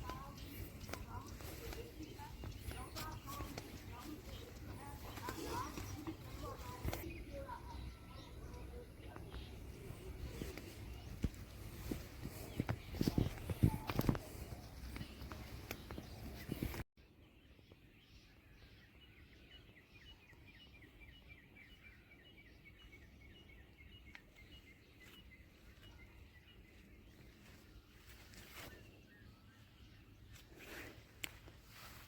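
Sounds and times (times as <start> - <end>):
bird chirping: 0.0 - 30.4.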